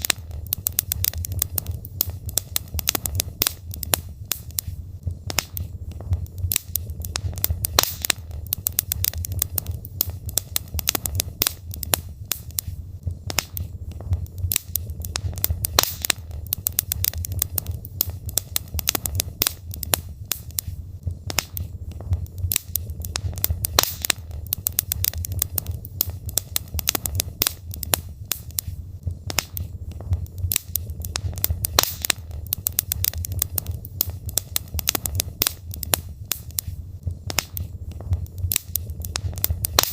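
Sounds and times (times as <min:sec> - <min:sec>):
logs crackling in wood fire: 0:00.0 - 0:39.9.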